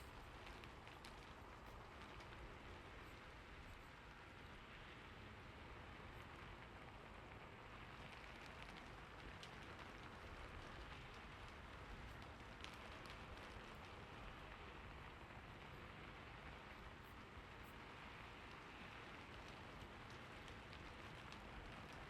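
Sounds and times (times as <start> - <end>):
soft steady rain: 0.0 - 22.0.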